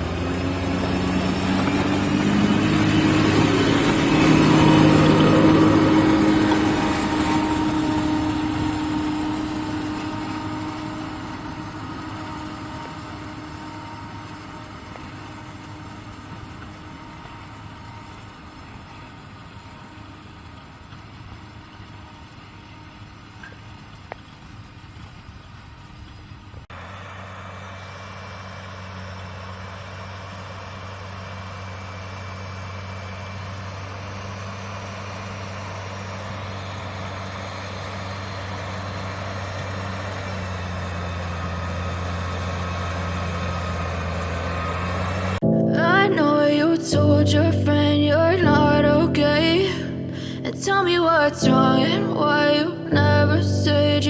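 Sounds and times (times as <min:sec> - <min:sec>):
steady engine hum: 0:00.0 - 0:54.0
tractor engine running: 0:00.0 - 0:54.0.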